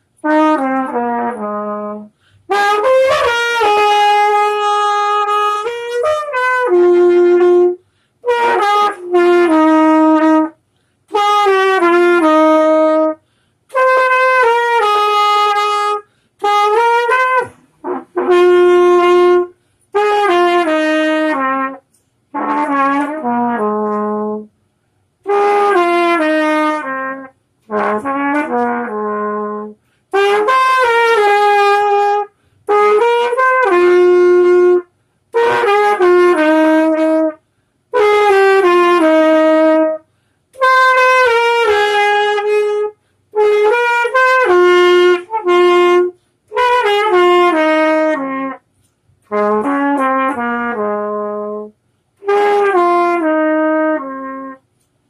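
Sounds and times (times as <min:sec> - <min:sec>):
solo trumpet slow melody: 0:00.0 - 0:54.9.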